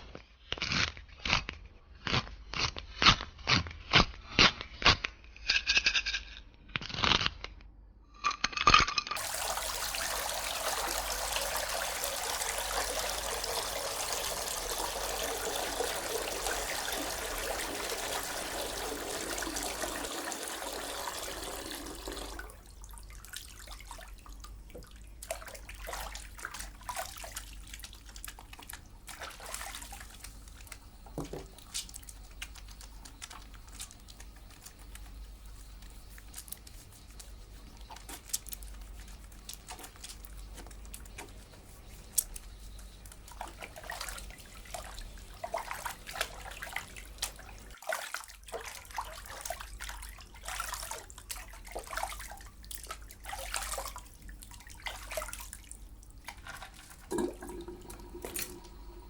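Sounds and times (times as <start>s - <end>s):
water splashing and dripping: 9.2s - 59.0s.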